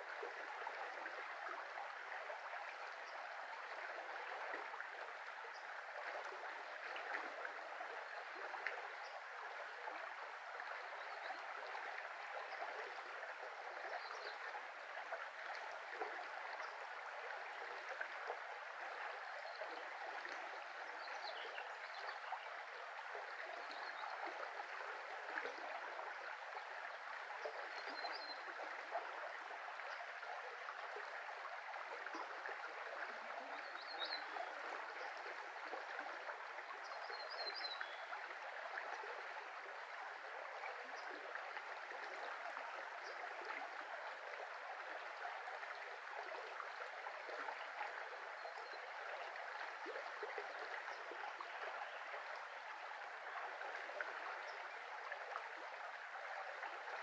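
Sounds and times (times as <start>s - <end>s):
brook babbling: 0.0s - 57.0s.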